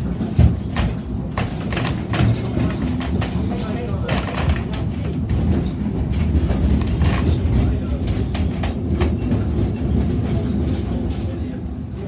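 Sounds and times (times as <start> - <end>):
wheels clicking over rails: 0.0 - 11.6
train carriage rumbling: 0.0 - 12.0.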